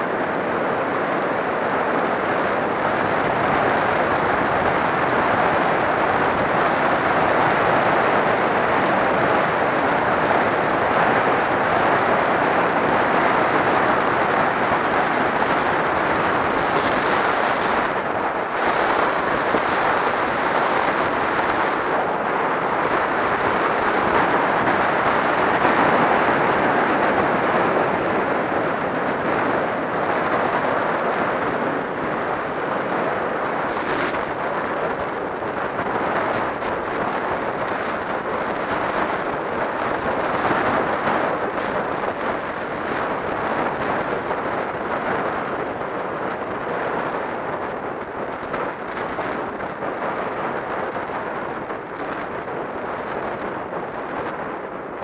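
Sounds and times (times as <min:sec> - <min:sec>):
wind rush over microphone: 0:00.0 - 0:55.0.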